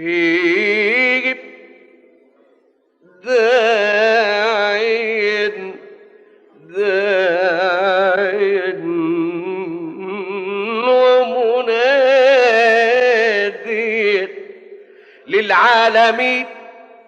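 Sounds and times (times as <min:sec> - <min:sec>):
man singing unaccompanied: 0:00.0 - 0:01.8, 0:03.2 - 0:06.0, 0:06.6 - 0:17.0.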